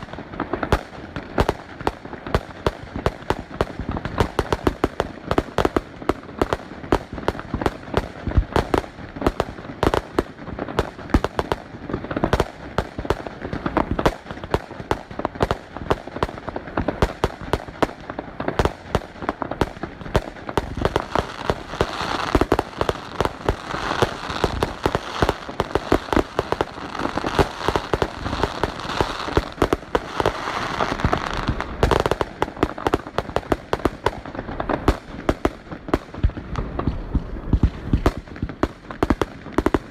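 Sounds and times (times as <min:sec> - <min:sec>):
fireworks bangs and pops: 0:00.0 - 0:39.9
fireworks crackling: 0:00.0 - 0:39.9.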